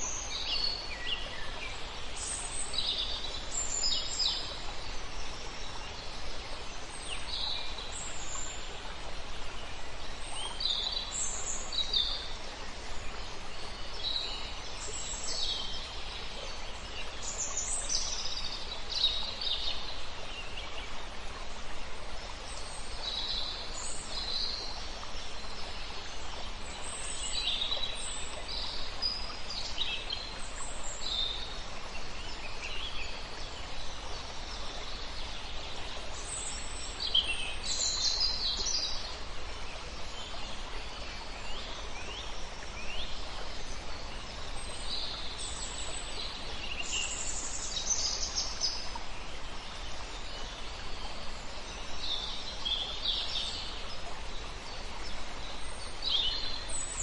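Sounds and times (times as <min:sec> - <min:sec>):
river flowing: 0:00.0 - 0:57.0
songbirds chirping: 0:00.0 - 0:57.0.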